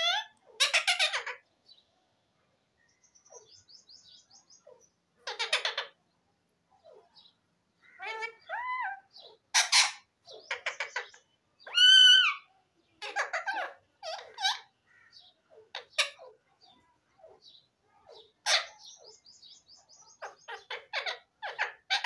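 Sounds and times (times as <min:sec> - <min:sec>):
parakeet calling: 0:00.0 - 0:01.5, 0:03.0 - 0:06.0, 0:06.8 - 0:22.0.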